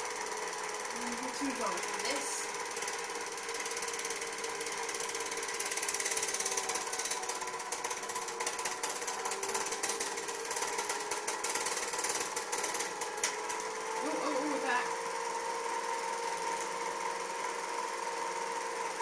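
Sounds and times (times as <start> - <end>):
film projector clattering: 0.0 - 19.0
motor whine: 0.0 - 19.0.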